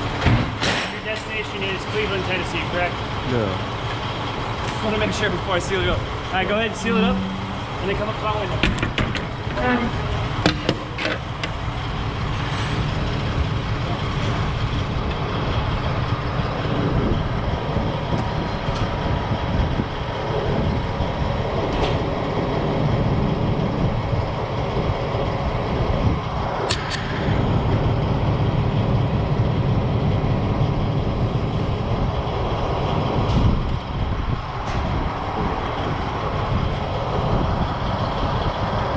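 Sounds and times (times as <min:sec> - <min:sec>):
diesel truck idling: 0:00.0 - 0:38.9.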